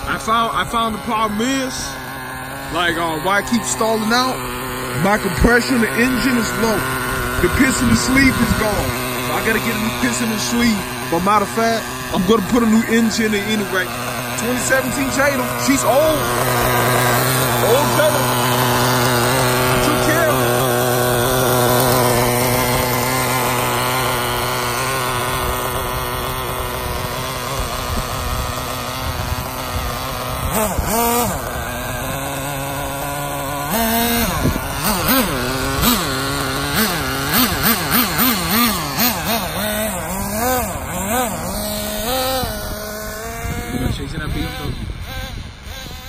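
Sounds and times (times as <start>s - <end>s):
small nitro engine revving: 0.0s - 46.0s.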